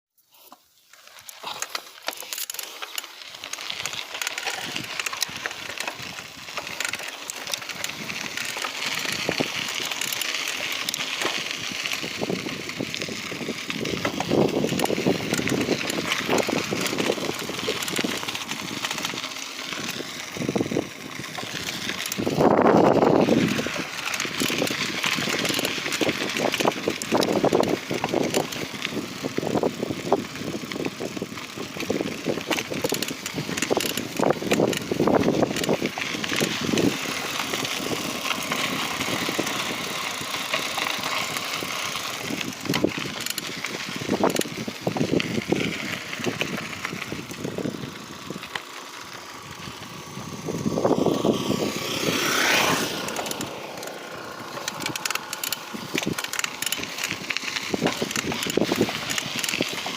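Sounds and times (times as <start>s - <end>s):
bicycle tyres rushing: 0.2s - 59.9s
bicycle rattling clicks: 0.4s - 59.9s.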